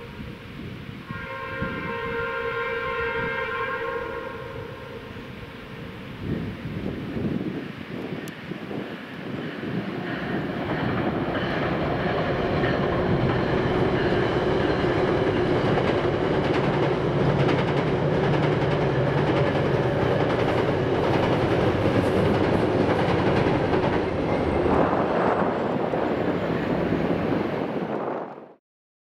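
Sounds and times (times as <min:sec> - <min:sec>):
train wheels rumbling on rail: 0:00.0 - 0:28.5.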